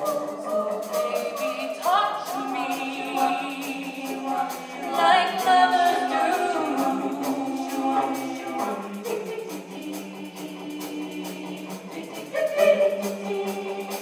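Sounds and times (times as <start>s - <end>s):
choir-like singing: 0.0s - 14.0s.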